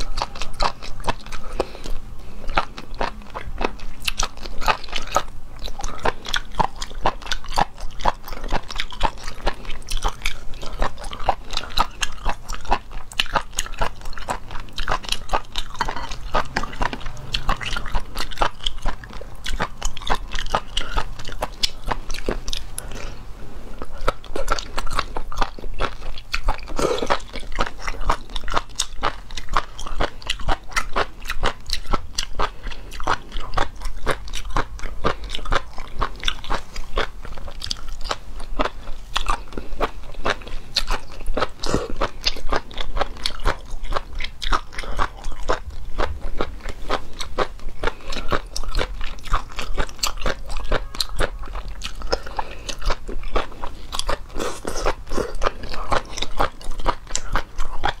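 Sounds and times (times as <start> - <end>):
person chewing and crunching: 0.0 - 58.0.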